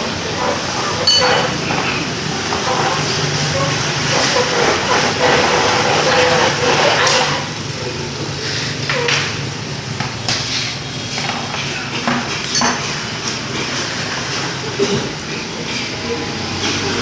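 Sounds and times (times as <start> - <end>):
plastic stools scraping on tile: 0.4 - 7.6, 10.0 - 17.0.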